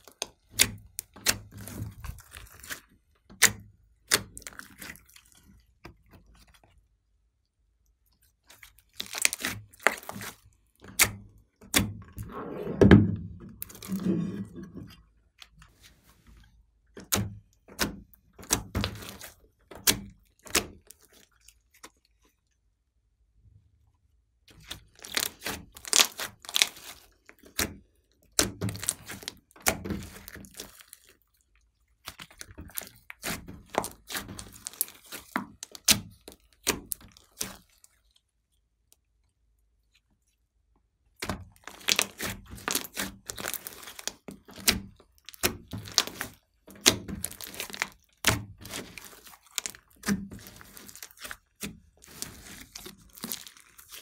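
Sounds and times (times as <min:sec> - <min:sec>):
slime clicking and crackling: 0:00.0 - 0:06.6, 0:07.8 - 0:12.0, 0:16.9 - 0:22.4, 0:24.5 - 0:39.2, 0:41.1 - 0:54.0.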